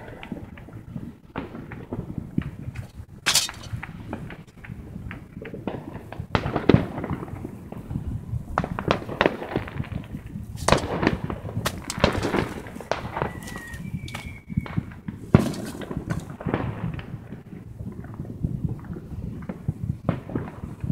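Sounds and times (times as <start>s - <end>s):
fireworks popping and crackling: 0.0s - 20.9s.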